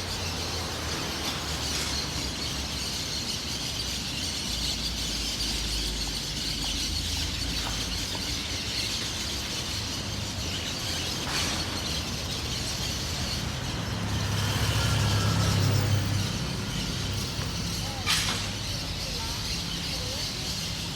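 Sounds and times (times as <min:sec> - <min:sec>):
low traffic rumble: 0:00.0 - 0:20.9
many birds chattering: 0:00.0 - 0:20.9.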